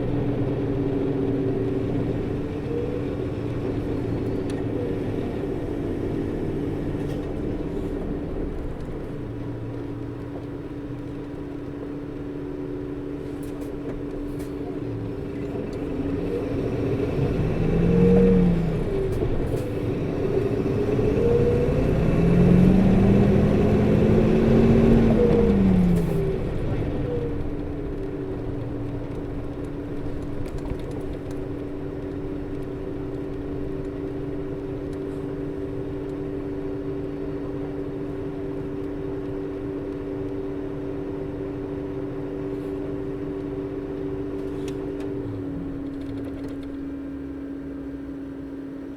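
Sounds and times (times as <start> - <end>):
bus diesel engine pulling away: 0.0 - 48.8
engine fan two-tone whine: 0.0 - 48.9.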